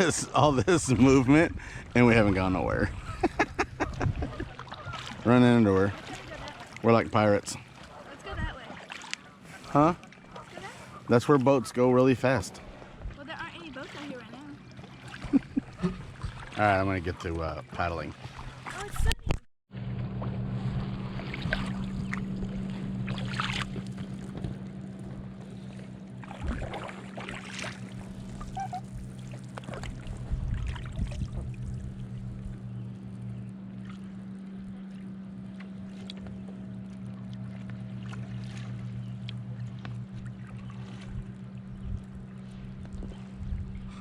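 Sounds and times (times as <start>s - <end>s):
low hum: 0.0s - 44.0s
paddle splashing in water: 0.9s - 11.7s, 12.6s - 44.0s.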